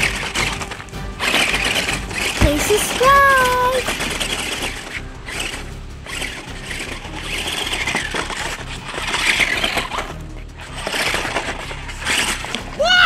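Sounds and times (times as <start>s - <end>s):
toy car electric motor whirring: 0.0s - 13.0s.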